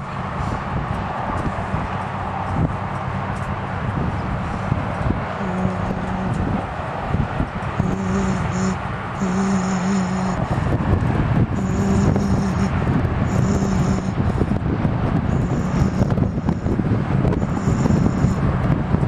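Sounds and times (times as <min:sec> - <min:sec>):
distant freight train rumbling: 0:00.0 - 0:19.0
low hum with hiss: 0:00.0 - 0:19.0
wind buffeting microphone: 0:00.0 - 0:19.0.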